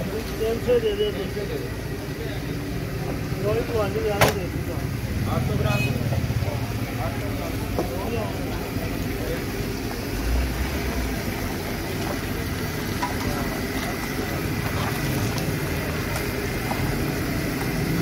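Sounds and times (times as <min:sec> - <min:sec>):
vehicle engines idling in traffic: 0:00.0 - 0:18.0.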